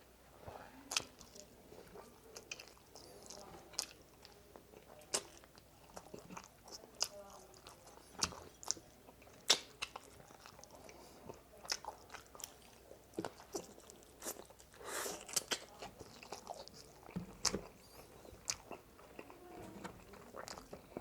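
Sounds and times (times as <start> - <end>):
person chewing and crunching food: 0.9 - 19.4, 20.0 - 21.0.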